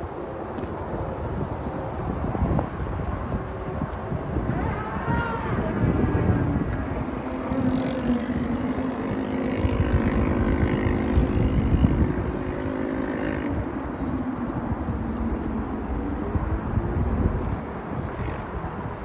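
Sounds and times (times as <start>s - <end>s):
vehicle engine drone: 0.0s - 19.0s
wind buffeting microphone: 0.0s - 19.0s.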